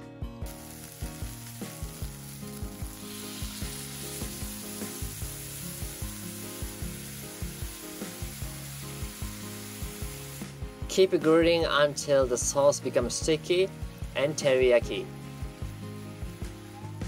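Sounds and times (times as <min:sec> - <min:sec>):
sauce sizzling in frying pan: 0:00.4 - 0:10.8, 0:13.2 - 0:16.8.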